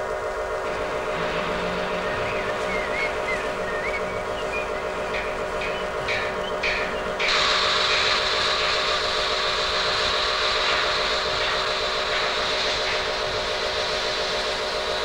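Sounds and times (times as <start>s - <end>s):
loud steady hiss: 0.0s - 15.0s
machine hum: 0.0s - 15.0s.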